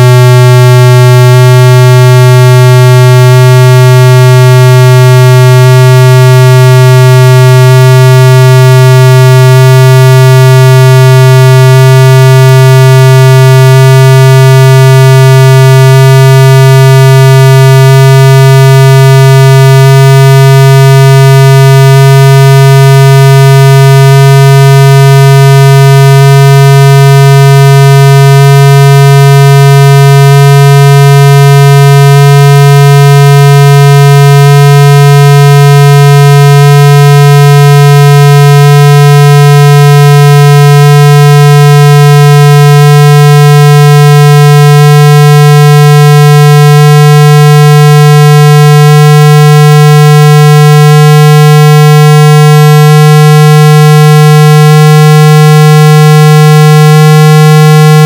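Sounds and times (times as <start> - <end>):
buzzy low electronic tone: 0.0 - 58.0.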